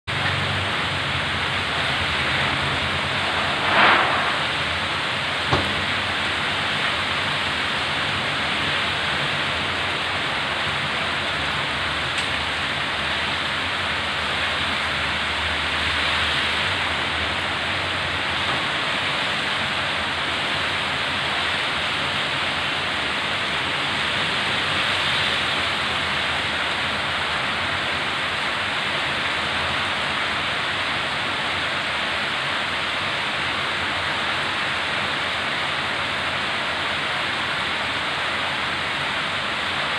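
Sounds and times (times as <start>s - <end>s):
heavy rain in strong wind: 0.1s - 39.9s.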